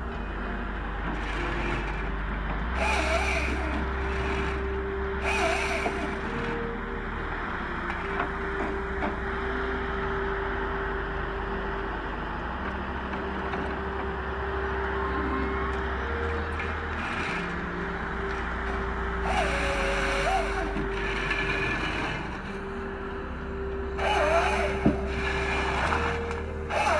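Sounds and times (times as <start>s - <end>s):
diesel forestry machine drone: 0.0s - 26.9s
machine whine: 0.0s - 26.9s.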